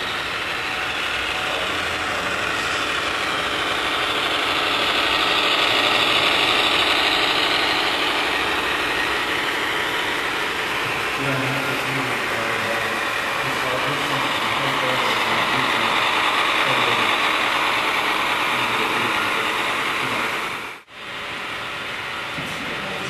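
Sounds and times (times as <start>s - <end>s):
low hum: 0.0s - 23.0s
model train motors whirring: 0.0s - 23.0s.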